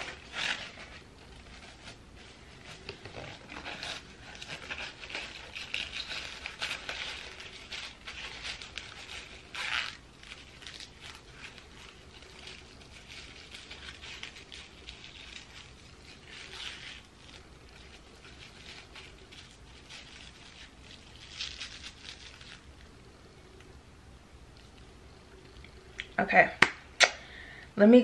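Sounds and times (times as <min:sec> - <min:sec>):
elastic strip rustling and scraping: 0:00.0 - 0:23.0.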